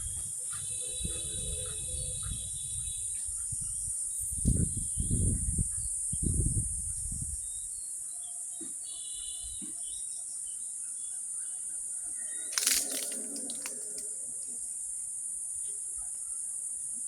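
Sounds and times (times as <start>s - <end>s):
insects chorus: 0.0s - 5.3s, 7.4s - 17.0s.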